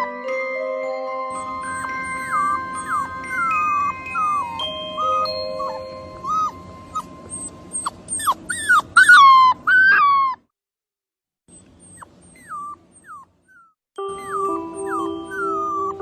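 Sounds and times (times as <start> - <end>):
puppy whimpering: 1.3 - 10.5, 11.5 - 16.0.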